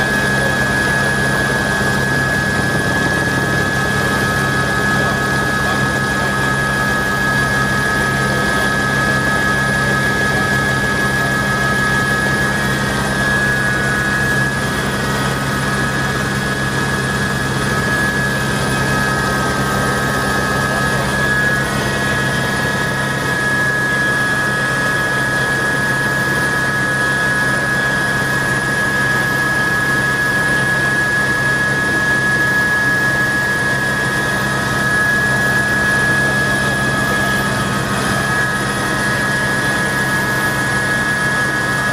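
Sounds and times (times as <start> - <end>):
helicopter droning: 0.0 - 41.9.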